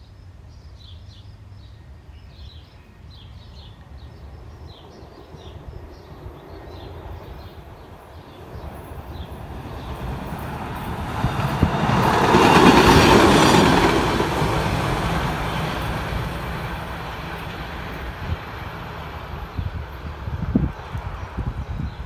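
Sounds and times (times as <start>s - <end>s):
light rail trolley passing: 0.2s - 22.0s.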